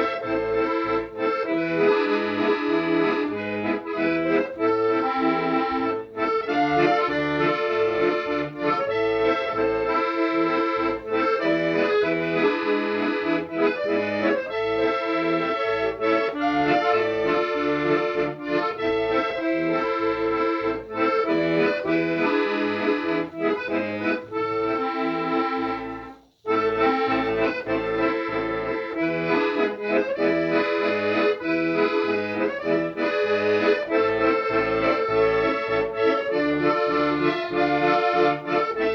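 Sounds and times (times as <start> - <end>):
accordion music: 0.0 - 38.9.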